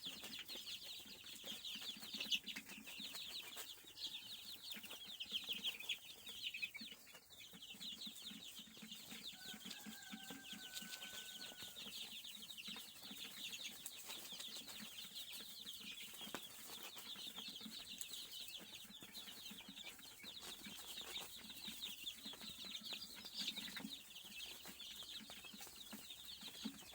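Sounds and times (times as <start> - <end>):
chicks peeping: 0.0 - 26.9.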